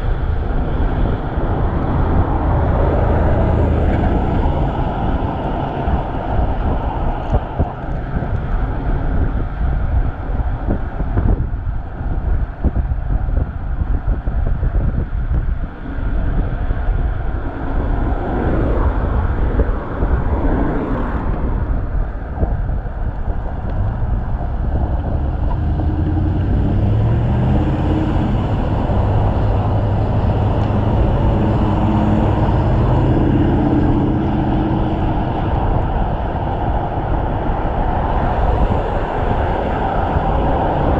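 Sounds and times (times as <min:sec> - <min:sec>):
low engine drone: 0:00.0 - 0:40.9
passing traffic rush: 0:00.0 - 0:40.9.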